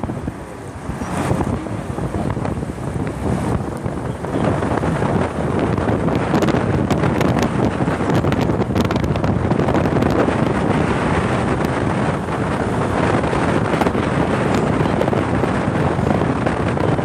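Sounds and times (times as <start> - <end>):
road traffic: 0.0 - 17.0
wind buffeting microphone: 0.0 - 17.0.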